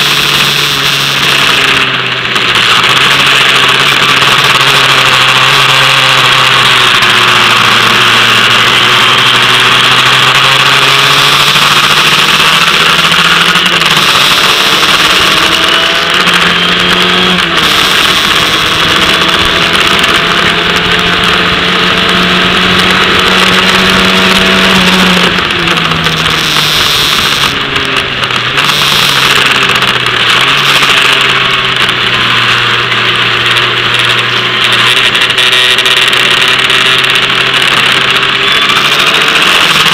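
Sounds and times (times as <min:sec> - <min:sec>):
race car engine shifting gears: 0:00.0 - 0:39.9.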